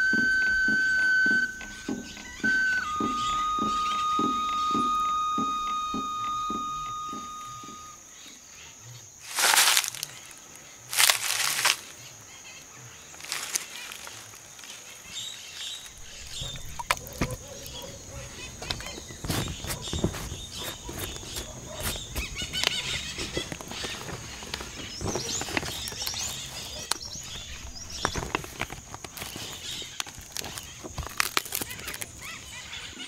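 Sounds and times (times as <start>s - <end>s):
high-pitched insect trill: 0.1s - 33.0s.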